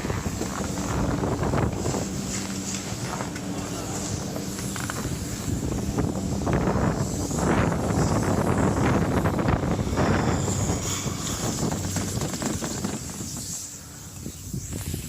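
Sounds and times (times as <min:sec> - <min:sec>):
skis scraping on snow: 0:00.0 - 0:13.9
wind rushing over microphone: 0:00.0 - 0:15.0.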